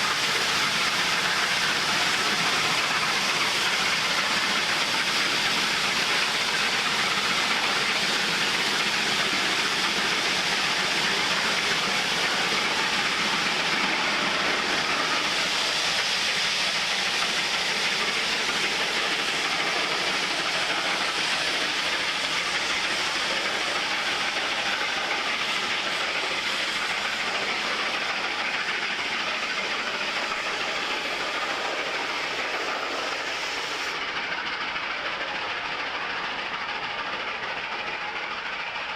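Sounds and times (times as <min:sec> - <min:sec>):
steam hissing: 0:00.0 - 0:38.9
train wheels on rails: 0:00.0 - 0:38.9.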